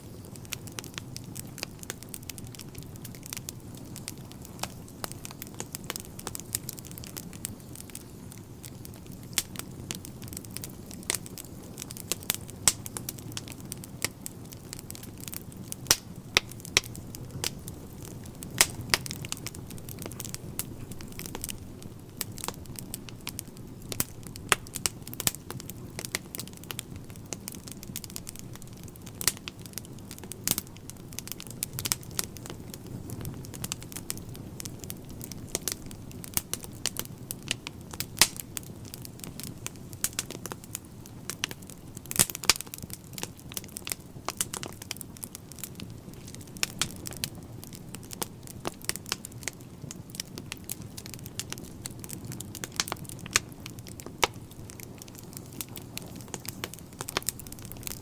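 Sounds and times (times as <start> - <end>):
fire rumbling with crackles and pops: 0.0 - 58.0.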